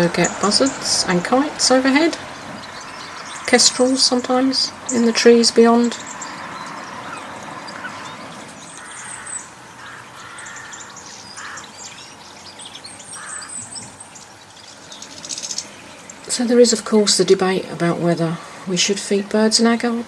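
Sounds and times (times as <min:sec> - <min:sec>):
harsh bird calls: 0:00.0 - 0:18.7
small birds chirping: 0:00.0 - 0:20.0.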